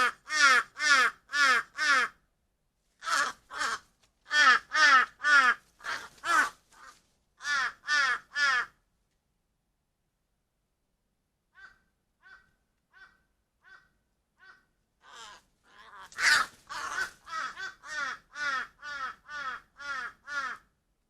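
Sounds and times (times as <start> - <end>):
crow cawing: 0.0 - 2.2, 3.0 - 8.8, 11.5 - 20.7.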